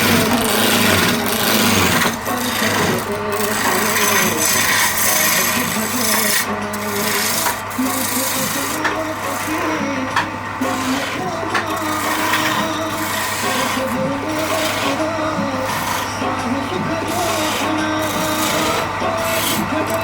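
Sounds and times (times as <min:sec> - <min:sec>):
rasping strokes across wood: 0:00.0 - 0:20.0.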